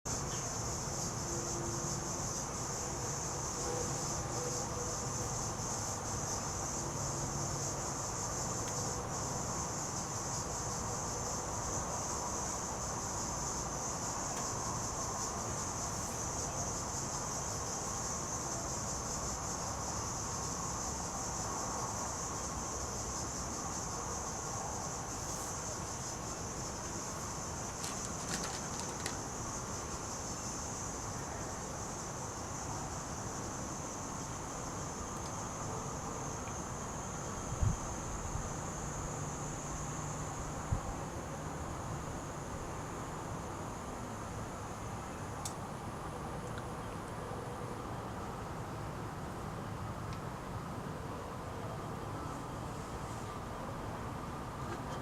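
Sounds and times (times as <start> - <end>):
high-pitched insect chorus: 0.1 - 46.1.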